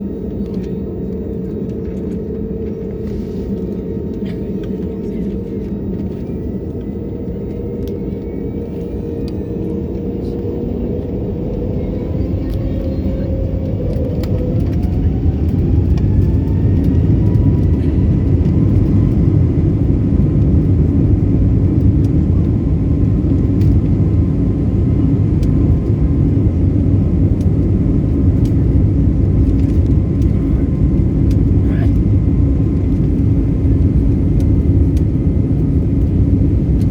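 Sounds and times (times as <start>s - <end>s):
jet engines low rumble: 0.0s - 36.9s.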